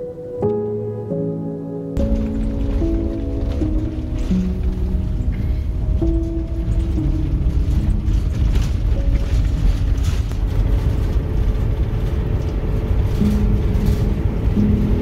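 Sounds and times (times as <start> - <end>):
slow background music: 0.0 - 15.0
motorhome driving rumble: 2.0 - 15.0.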